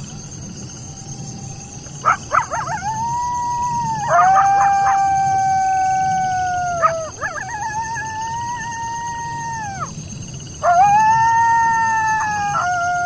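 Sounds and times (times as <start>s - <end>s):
crickets chirping: 0.0s - 13.0s
coyotes howling: 0.4s - 13.0s
coyotes yipping: 1.2s - 13.0s.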